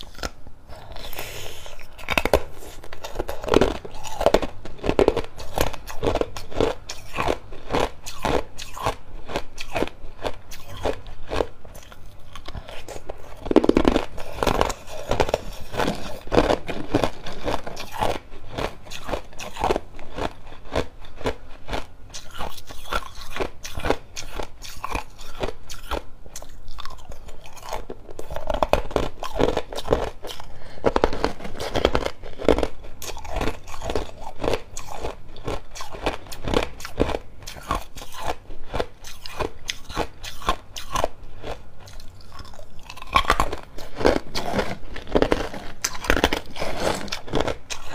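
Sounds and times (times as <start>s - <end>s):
ice cubes crunching between teeth: 0.0s - 47.9s.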